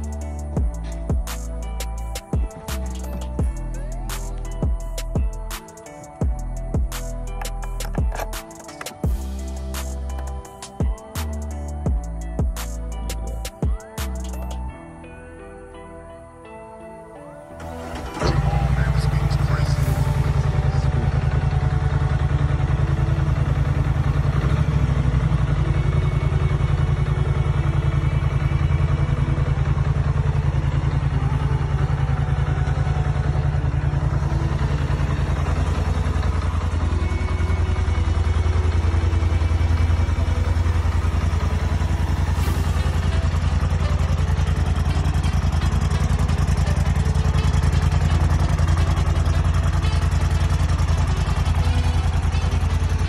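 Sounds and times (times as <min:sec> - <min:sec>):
atv engine idling: 0:00.0 - 0:14.6, 0:17.6 - 0:53.0.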